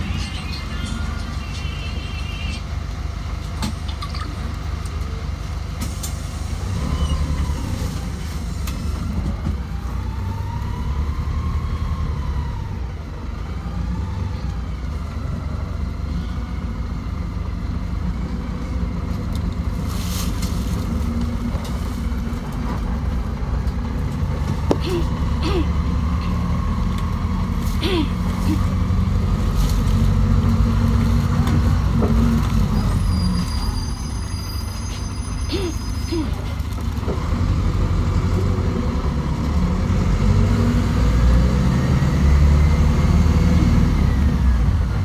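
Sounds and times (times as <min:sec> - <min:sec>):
vehicle engines running: 0:00.0 - 0:45.0.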